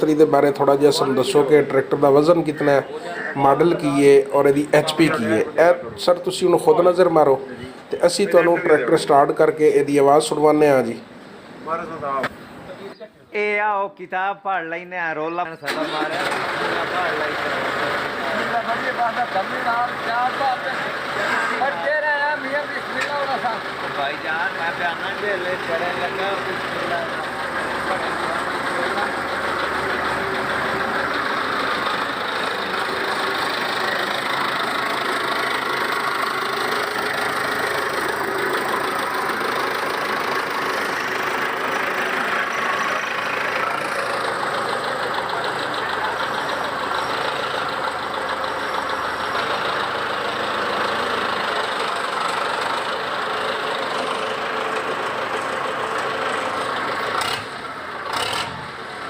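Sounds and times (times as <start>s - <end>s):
tractor diesel engine idling: 0.0s - 11.8s, 15.6s - 59.0s.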